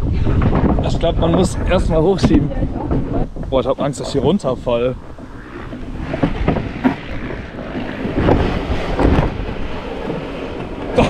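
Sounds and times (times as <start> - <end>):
low rumbling: 0.0 - 11.0
wind buffeting microphone: 0.0 - 11.0.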